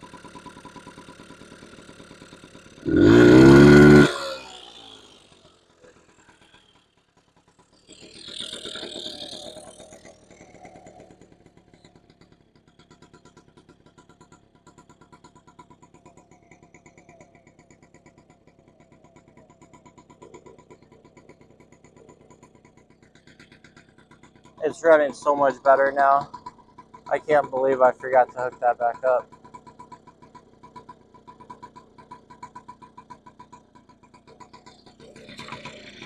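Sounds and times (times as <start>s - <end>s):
small two-stroke engine idling: 0.0s - 36.0s.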